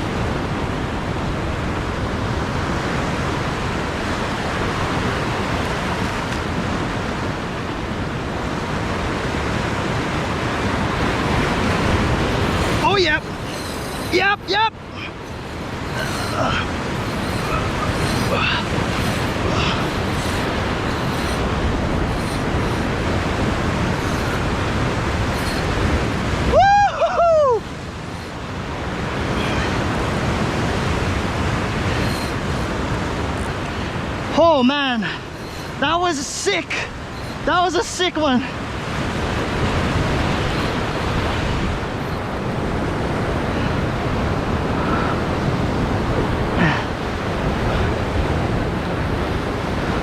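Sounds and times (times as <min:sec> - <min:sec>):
wind on microphone: 0:00.0 - 0:35.9, 0:38.4 - 0:50.0
ocean surf rushing: 0:00.0 - 0:50.0
waves washing against rocks: 0:00.0 - 0:50.0.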